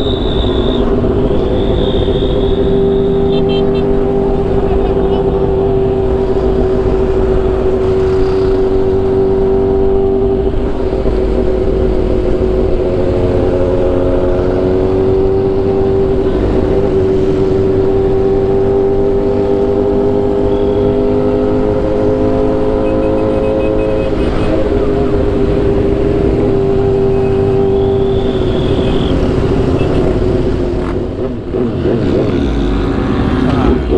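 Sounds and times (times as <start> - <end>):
motorcycle engine cruising: 0.0 - 33.9.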